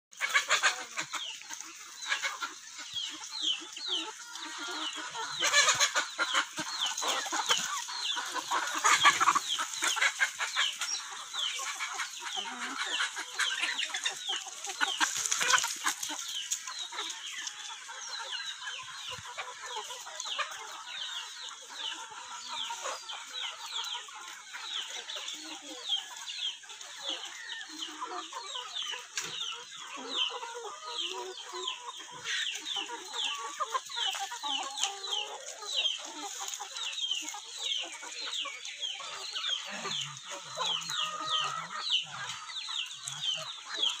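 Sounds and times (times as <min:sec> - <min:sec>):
chickens clucking: 0:00.1 - 0:44.0.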